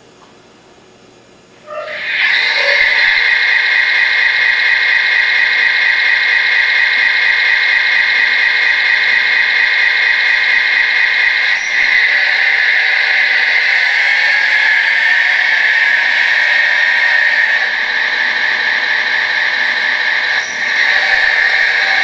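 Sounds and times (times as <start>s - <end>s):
toy bulldozer motor running: 2.0s - 22.0s.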